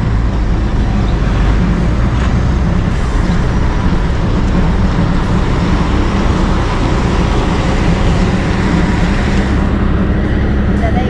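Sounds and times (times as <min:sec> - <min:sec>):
constant low hum: 0:00.0 - 0:11.0
vehicle engine and road noise: 0:00.0 - 0:11.0.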